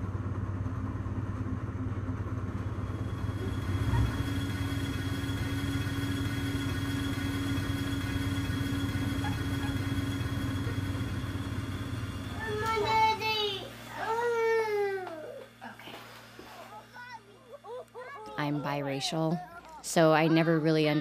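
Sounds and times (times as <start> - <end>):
faint steady whine: 0.0 - 21.0
train interior hum: 0.0 - 21.0.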